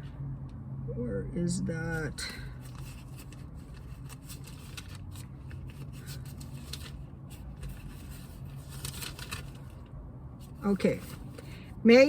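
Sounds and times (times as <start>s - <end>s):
steady low hum: 0.0s - 12.0s
rustling and handling noises: 1.8s - 11.8s.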